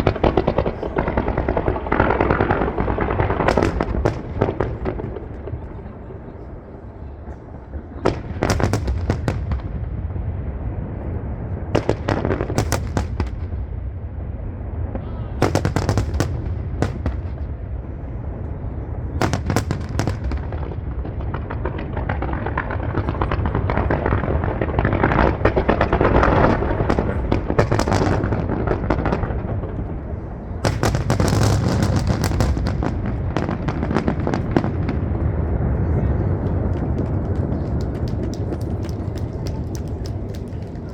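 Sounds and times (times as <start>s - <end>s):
fireworks crackling: 0.0s - 40.9s
low rumble of booms: 0.0s - 40.9s.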